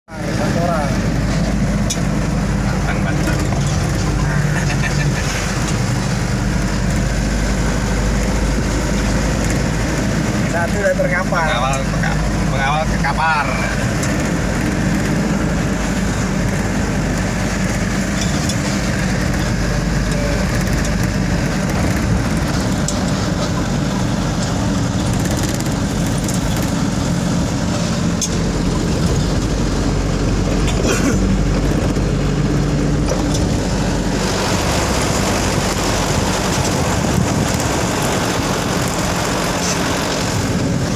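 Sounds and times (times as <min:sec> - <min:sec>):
road and engine noise in car: 0:00.1 - 0:40.9.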